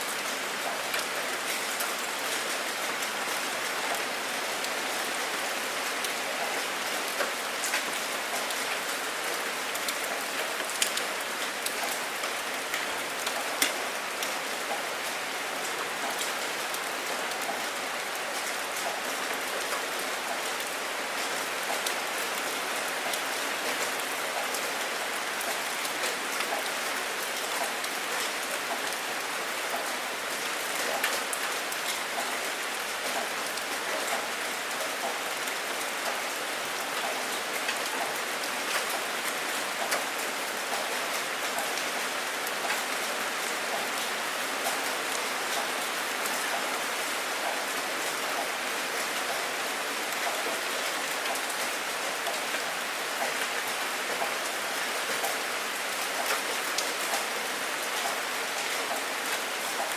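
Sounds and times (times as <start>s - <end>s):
steady rain hiss: 0.0s - 59.9s
raindrops ticking on a surface: 0.1s - 59.9s.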